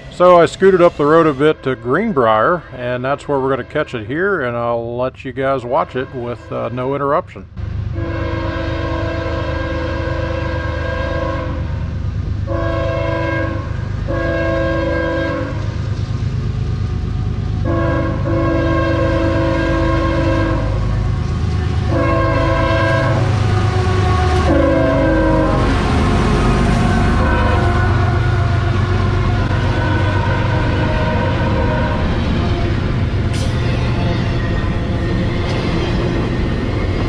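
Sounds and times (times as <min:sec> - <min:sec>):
locomotive air horn blasts: 0:00.0 - 0:02.7, 0:03.3 - 0:04.4, 0:05.7 - 0:07.0, 0:08.0 - 0:11.8, 0:12.5 - 0:15.8, 0:16.9 - 0:34.8
rumble of train engines and wheels: 0:00.0 - 0:37.0.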